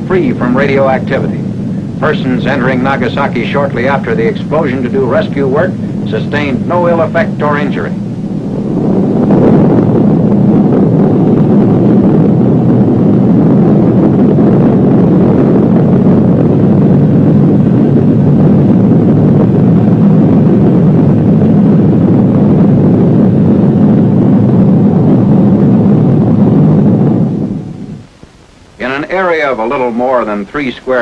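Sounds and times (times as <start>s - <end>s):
faint even hum: 0.0s - 31.0s
low rumbling roar: 0.0s - 31.0s.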